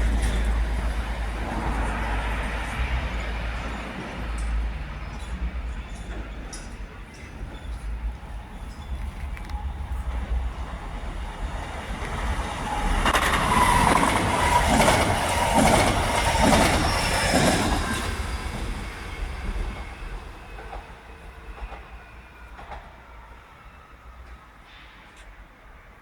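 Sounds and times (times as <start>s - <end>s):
train wheels rushing: 0.0s - 26.0s.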